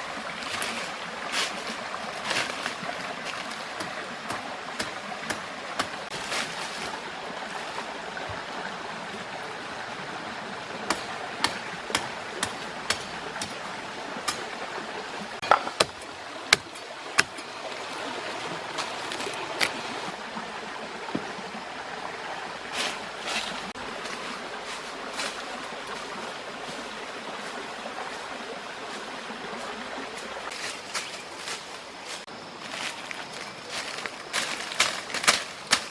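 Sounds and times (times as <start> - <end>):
flowing water: 0.0 - 35.9.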